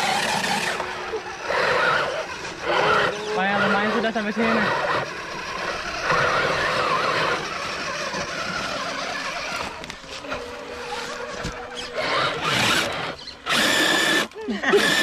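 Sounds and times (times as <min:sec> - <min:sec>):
electric motor whine: 0:00.0 - 0:15.0
rustling over rough ground: 0:00.0 - 0:15.0.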